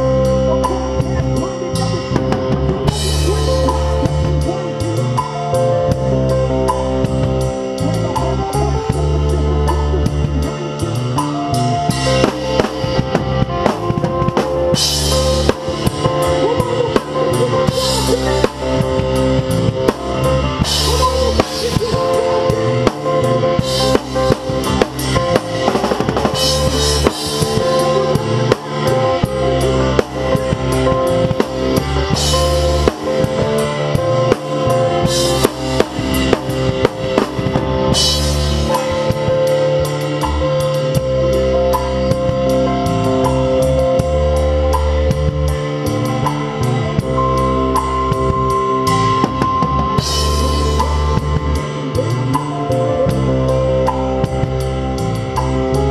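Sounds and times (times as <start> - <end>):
bass drum and snare beat: 0.0 - 55.9
guitar and bass: 0.0 - 55.9.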